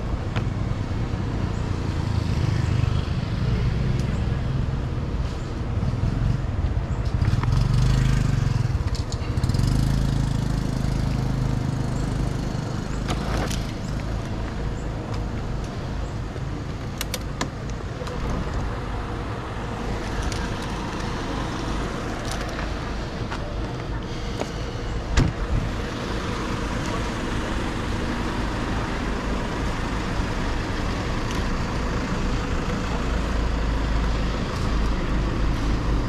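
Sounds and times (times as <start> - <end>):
road noise: 0.0 - 36.0
vehicle engine running: 0.0 - 36.0.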